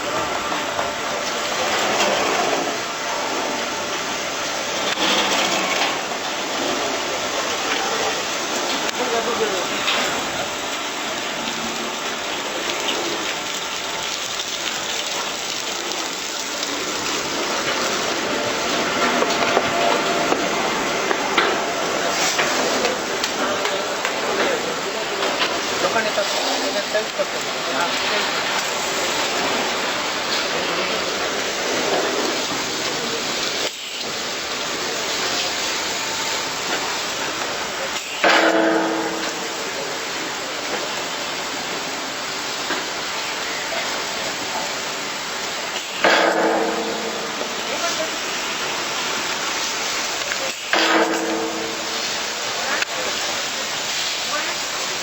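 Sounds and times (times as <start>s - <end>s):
water jets spraying: 0.0s - 55.0s.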